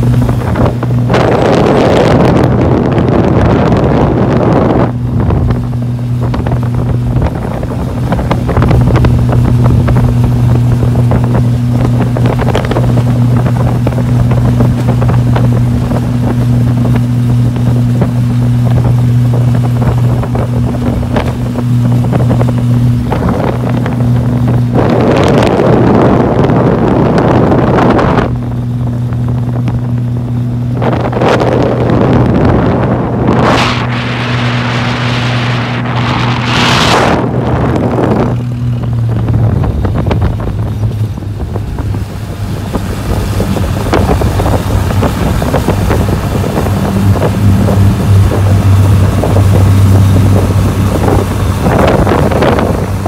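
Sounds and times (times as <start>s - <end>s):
speedboat engine droning: 0.0s - 53.0s
wind on microphone: 0.0s - 53.0s.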